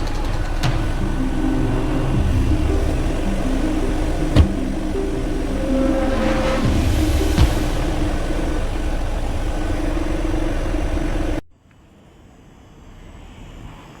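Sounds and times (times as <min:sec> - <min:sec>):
faint hum: 0:00.0 - 0:11.4
truck engine idling: 0:00.0 - 0:11.4.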